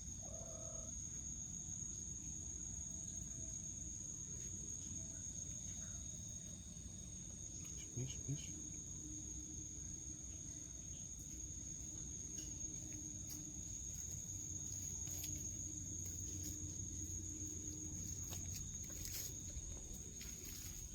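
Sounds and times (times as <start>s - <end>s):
crickets chirring: 0.0s - 20.9s
faint low pulsing hum: 2.6s - 20.9s.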